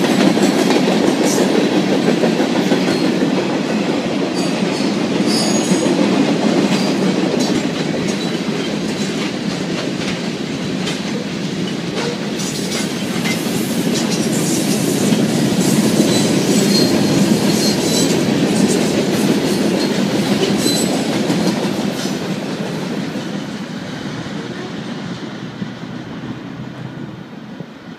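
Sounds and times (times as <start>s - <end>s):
wheels clicking over rail joints: 0.0s - 23.7s
freight train rolling past: 0.0s - 27.9s.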